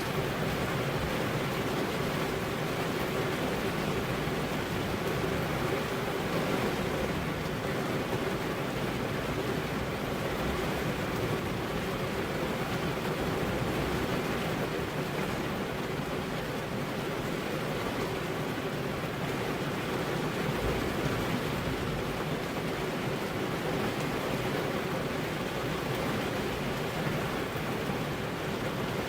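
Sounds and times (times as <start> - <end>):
heavy rain on car window: 0.0 - 29.0.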